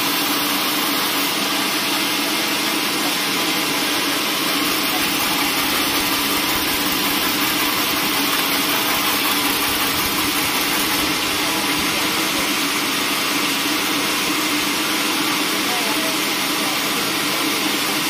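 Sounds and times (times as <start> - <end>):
band saw cutting timber: 0.0 - 17.1.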